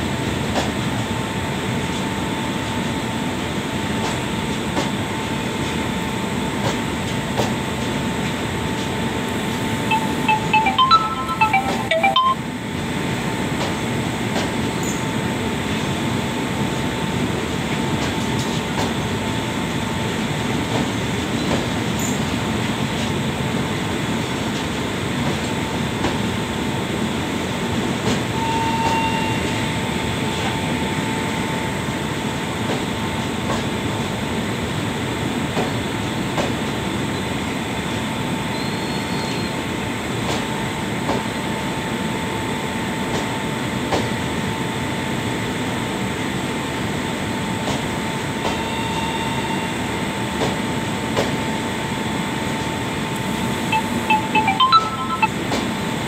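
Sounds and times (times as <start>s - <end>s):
train wheels rumbling on rail: 0.0s - 9.8s, 13.1s - 53.0s.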